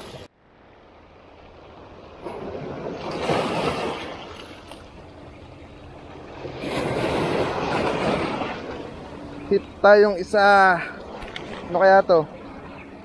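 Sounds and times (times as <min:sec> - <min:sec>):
sea waves washing ashore: 0:00.0 - 0:13.0.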